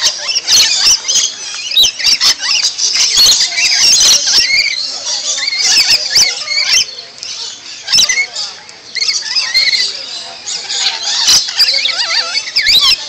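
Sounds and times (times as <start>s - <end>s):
parrots screeching: 0.0s - 13.0s.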